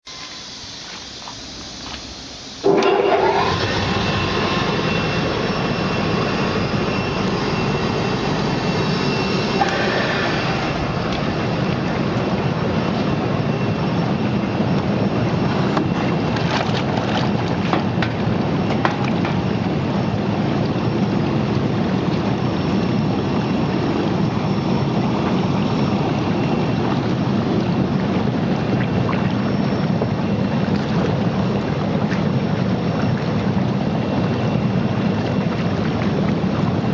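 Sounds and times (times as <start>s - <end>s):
washing machine bubbling water: 0.0s - 36.9s.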